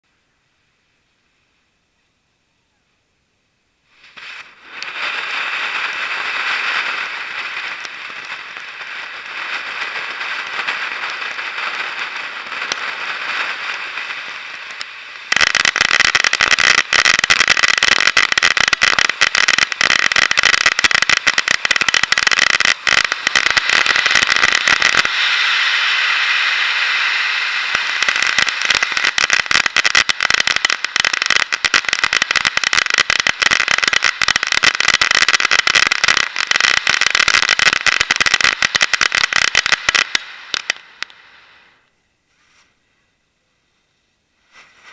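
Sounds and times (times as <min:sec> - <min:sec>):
firework dense crackling: 0:03.7 - 0:44.9
firework fountain hissing: 0:03.8 - 0:42.9, 0:43.7 - 0:44.9.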